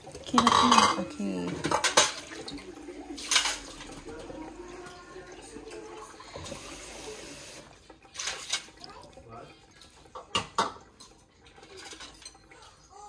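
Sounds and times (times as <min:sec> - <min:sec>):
dishes clattering: 0:00.0 - 0:06.8, 0:08.1 - 0:08.8, 0:09.8 - 0:12.8
water running into a sink: 0:00.0 - 0:13.0.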